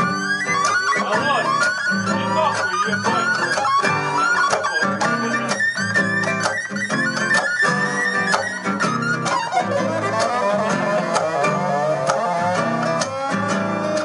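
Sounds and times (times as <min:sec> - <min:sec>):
gliding guitar-like noise music: 0:00.0 - 0:14.0.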